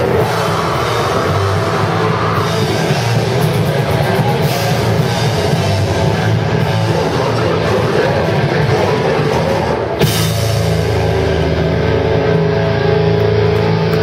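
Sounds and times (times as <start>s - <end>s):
distorted electric guitars: 0.0s - 14.0s
pounding drum kit: 0.0s - 14.0s.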